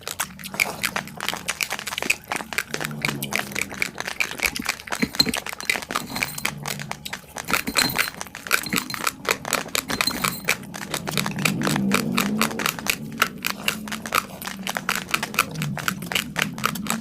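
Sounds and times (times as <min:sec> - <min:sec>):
raw rice grains being chewed: 0:00.0 - 0:17.0.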